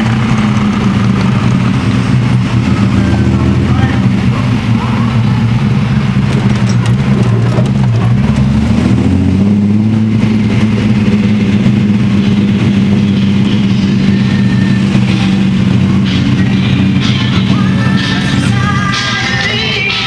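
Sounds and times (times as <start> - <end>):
car engine running from inside cabin: 0.0 - 20.0.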